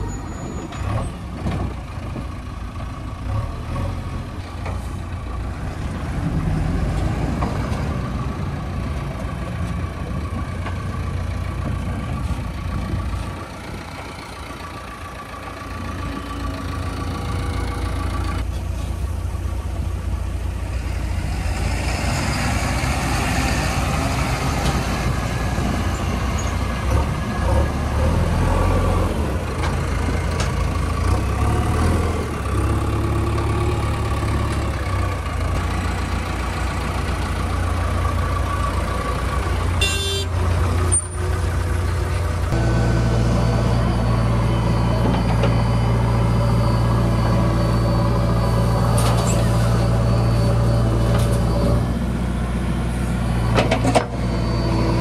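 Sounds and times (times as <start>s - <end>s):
heavy diesel engines rumbling: 0.0s - 55.0s.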